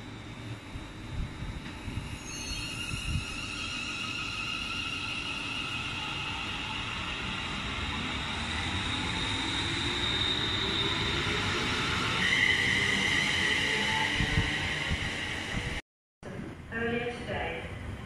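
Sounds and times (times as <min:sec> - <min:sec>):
electric train motors whining: 0:00.2 - 0:15.8.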